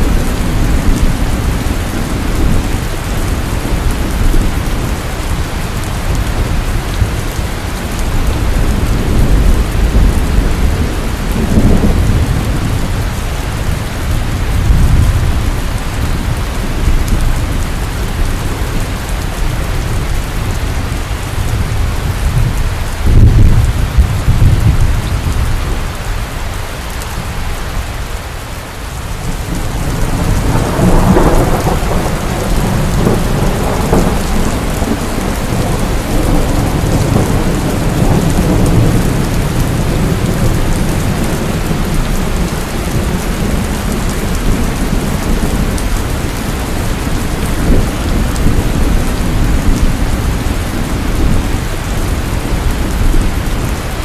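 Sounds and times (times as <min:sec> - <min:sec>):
rolling thunder: 0:00.0 - 0:25.9, 0:29.0 - 0:54.0
heavy rain pouring: 0:00.0 - 0:54.0.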